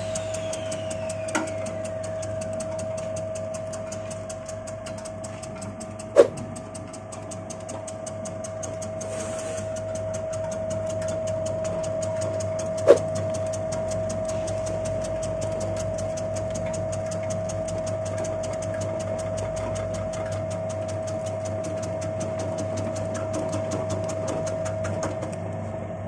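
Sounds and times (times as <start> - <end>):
rapid blade ticking: 0.0 - 25.2
slicing machine motor hum: 0.0 - 26.0.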